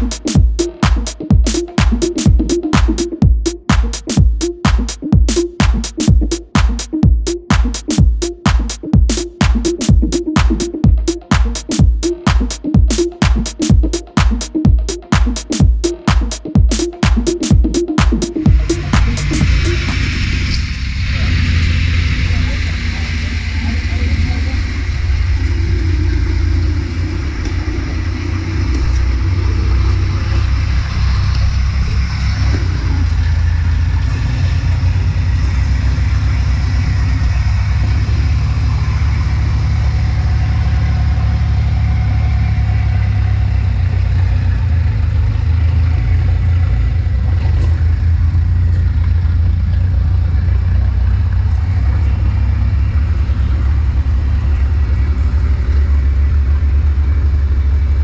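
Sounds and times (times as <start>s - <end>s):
tracked machine engine droning: 0.0s - 58.0s.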